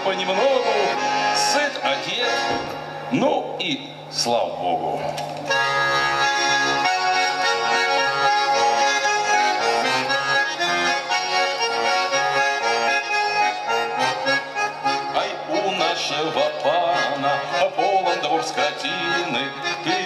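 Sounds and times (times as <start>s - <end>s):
button accordion folk tune: 0.0s - 20.0s.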